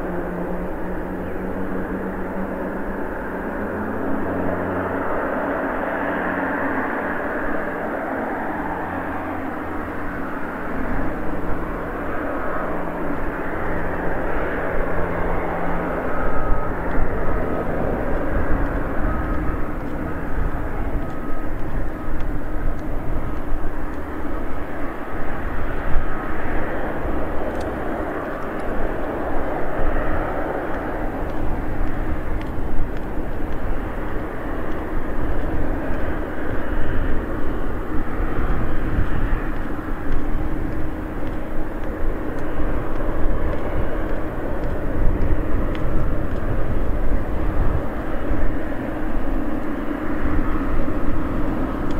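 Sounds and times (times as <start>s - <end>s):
jet engines rumbling and whining: 0.0s - 51.9s.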